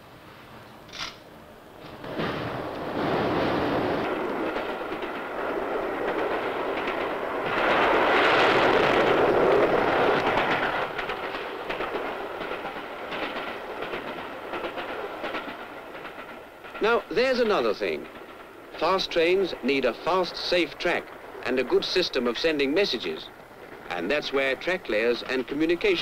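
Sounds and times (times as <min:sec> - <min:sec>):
train wheels clicking over rail joints: 0:00.9 - 0:26.0.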